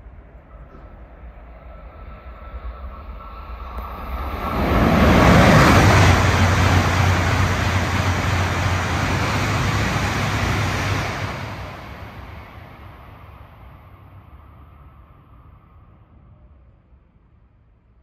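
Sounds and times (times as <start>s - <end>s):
high-speed train passing: 0.0s - 16.8s.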